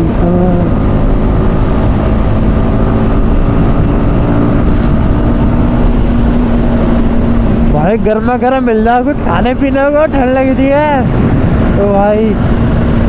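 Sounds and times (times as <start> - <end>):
motorcycle engine running: 0.0 - 13.0
wind rush on microphone: 0.0 - 13.0.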